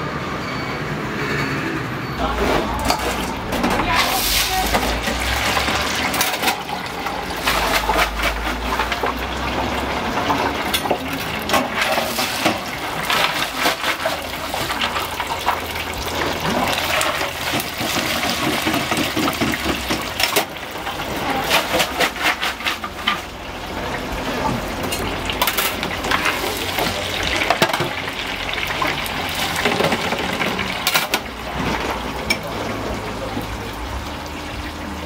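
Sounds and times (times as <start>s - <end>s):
food frying in hot oil: 2.8s - 35.0s.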